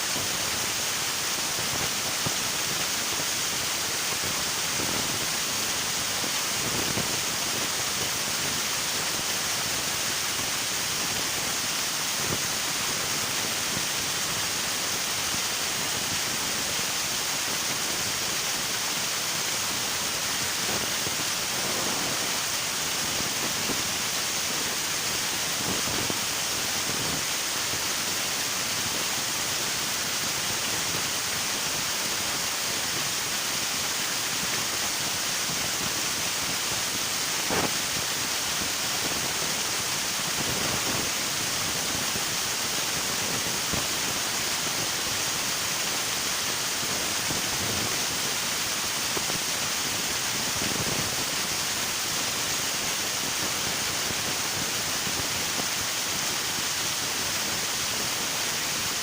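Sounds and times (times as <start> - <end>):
river water rushing: 0.2 - 59.0.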